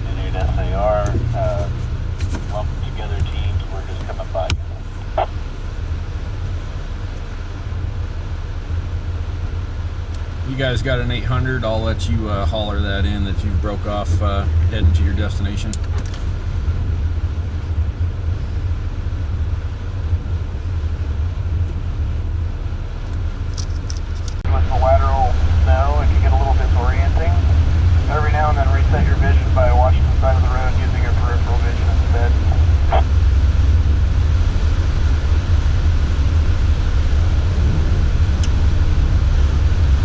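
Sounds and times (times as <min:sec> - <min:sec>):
vehicle interior rumble: 0:00.0 - 0:40.0.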